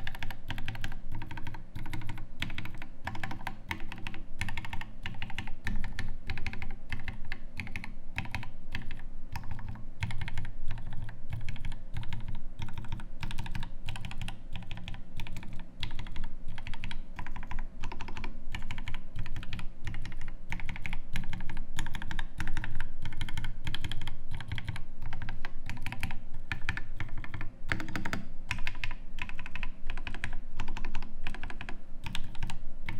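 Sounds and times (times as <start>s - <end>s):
mechanical keyboard typing: 0.0s - 32.9s.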